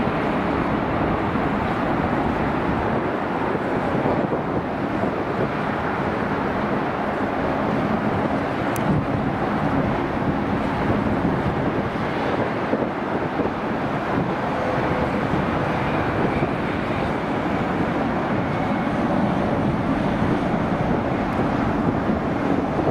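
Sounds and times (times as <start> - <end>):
jet engines in reverse thrust: 0.0 - 22.9.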